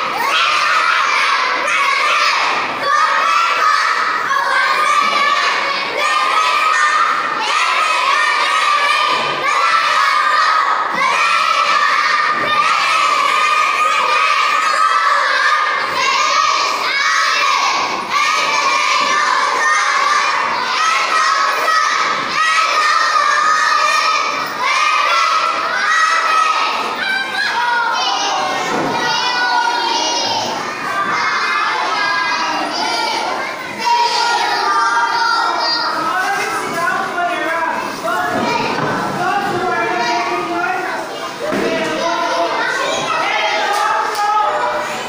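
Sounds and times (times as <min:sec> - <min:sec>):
children praying aloud in unison: 0:00.0 - 0:45.0.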